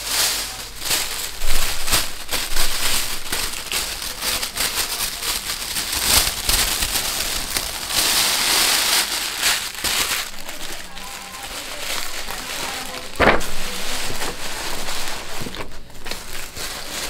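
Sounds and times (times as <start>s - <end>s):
tissue paper crinkling: 0.0s - 17.0s.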